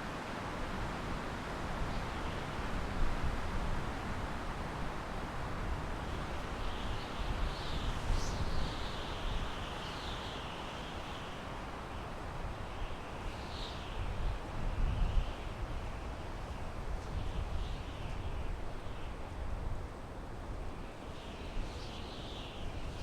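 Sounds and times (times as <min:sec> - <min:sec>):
wind blowing through pine trees: 0:00.0 - 0:23.0.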